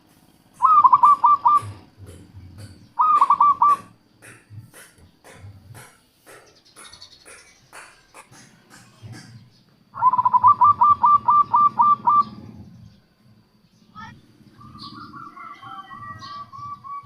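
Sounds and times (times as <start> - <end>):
dove cooing: 0.6 - 13.6, 14.2 - 17.0.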